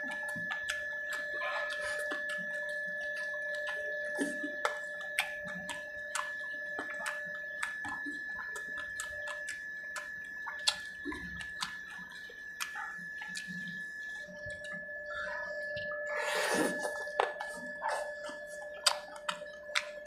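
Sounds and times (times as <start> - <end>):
faint high whine: 0.0 - 20.0
wet smacking and chewing: 0.0 - 20.0.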